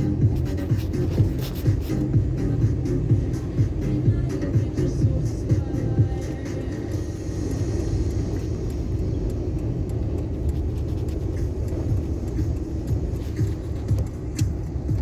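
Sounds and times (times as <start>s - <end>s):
vehicle driving low rumble: 0.0s - 15.0s.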